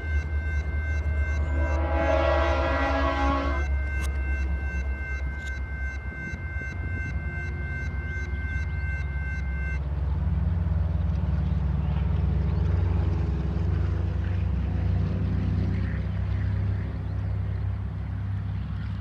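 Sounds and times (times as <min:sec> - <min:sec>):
railroad crossing electronic bell: 0:00.0 - 0:18.8
reversed diesel locomotive rumble: 0:00.0 - 0:19.0.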